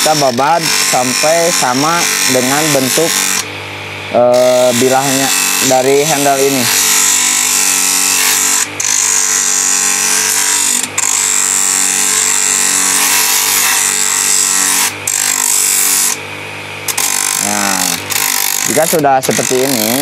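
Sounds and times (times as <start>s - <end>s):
wood grinding hiss: 0.0s - 3.5s, 4.2s - 16.2s, 16.8s - 20.0s
bench grinder motor running: 0.0s - 20.0s.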